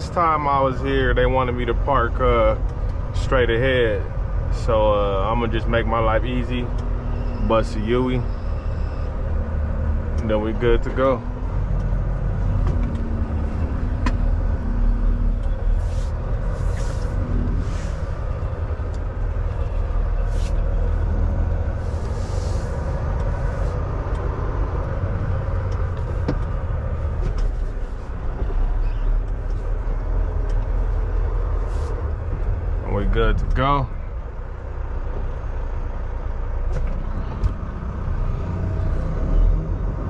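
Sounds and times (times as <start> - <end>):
diesel truck engine rumbling: 0.0 - 40.0.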